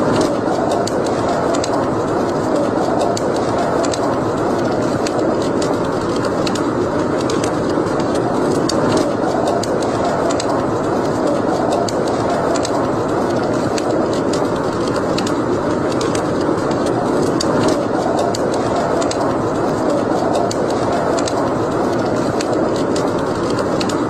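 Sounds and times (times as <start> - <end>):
fire burning in a fireplace: 0.0 - 24.0
fire crackling and popping: 0.0 - 24.0.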